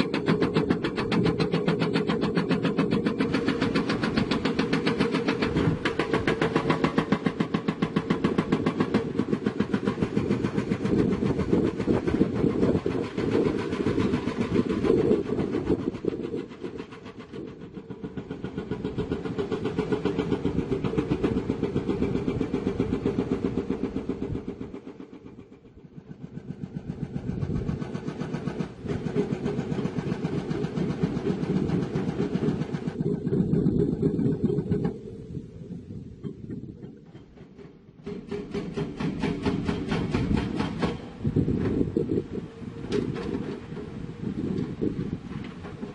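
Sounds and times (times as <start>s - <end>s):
hydraulic hammer pounding rock: 0.0s - 35.1s, 36.3s - 45.9s.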